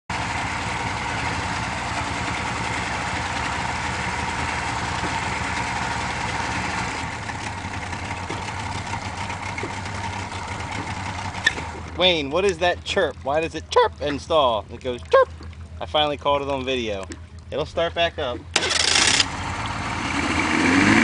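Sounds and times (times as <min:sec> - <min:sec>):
outboard motor idling: 0:00.1 - 0:21.0.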